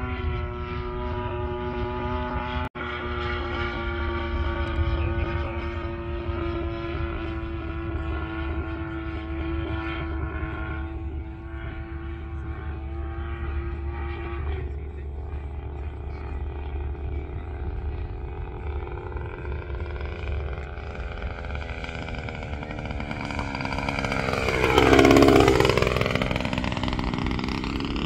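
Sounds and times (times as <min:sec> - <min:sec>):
model airplane engine buzzing: 0:00.0 - 0:28.0.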